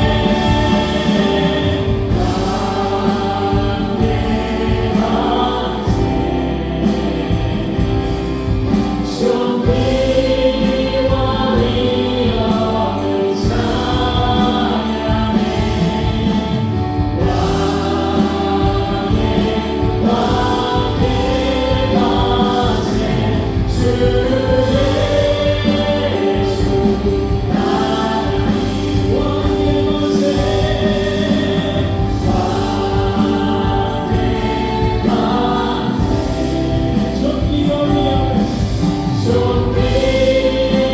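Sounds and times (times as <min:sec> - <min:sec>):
full band playing: 0:00.0 - 0:40.9
vocalists singing worship song: 0:00.0 - 0:40.9.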